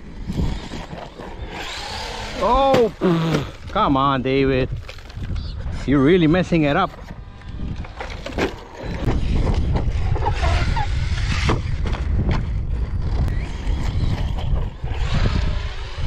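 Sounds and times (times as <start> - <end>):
wind rumbling on microphone: 0.0 - 2.6, 3.4 - 16.0
rc trucks running: 0.0 - 16.0.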